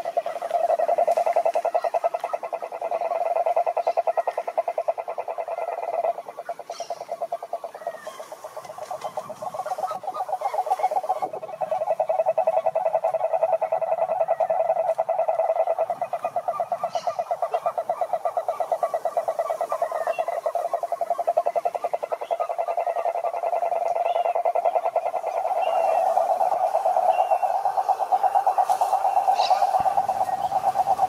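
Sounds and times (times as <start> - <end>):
frogs trilling: 0.0 - 31.0.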